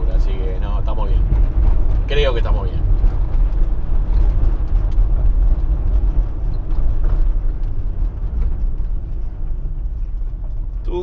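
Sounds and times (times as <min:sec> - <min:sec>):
van engine and tyres rumbling: 0:00.0 - 0:11.0.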